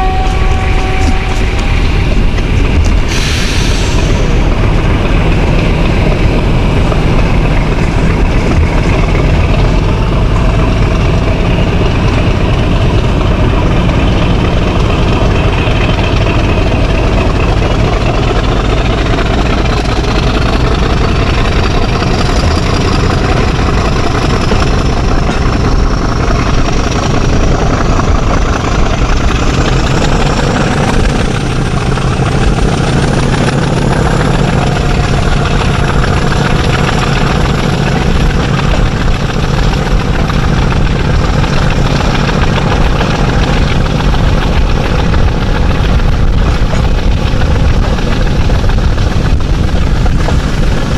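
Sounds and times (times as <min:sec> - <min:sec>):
diesel locomotive engine drone: 0:00.0 - 0:50.9.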